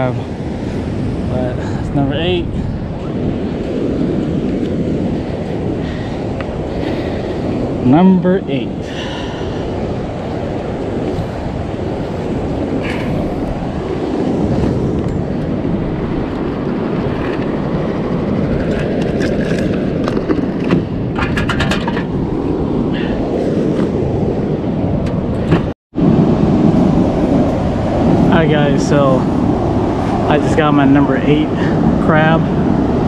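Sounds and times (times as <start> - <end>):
ocean surf: 0.0 - 33.0
wind rumble on microphone: 0.0 - 33.0.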